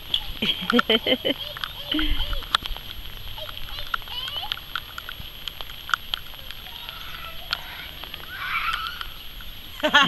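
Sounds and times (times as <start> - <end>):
raindrop ticks: 0.0 - 9.6
light rain hiss: 0.0 - 10.0.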